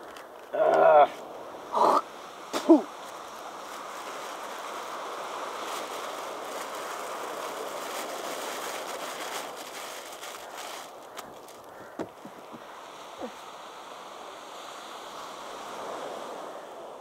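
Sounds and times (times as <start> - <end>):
surf breaking on a beach: 0.0 - 17.0.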